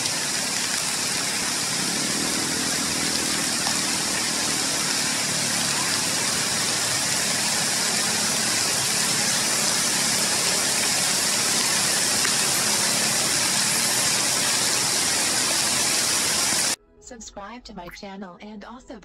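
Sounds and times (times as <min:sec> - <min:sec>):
heavy rain on leaves: 0:00.0 - 0:16.8.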